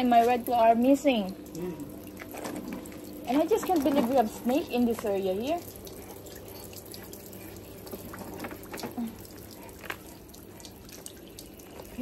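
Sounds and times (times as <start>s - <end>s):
water trickling and dripping: 0.0s - 12.0s
small water splashes: 1.1s - 12.0s.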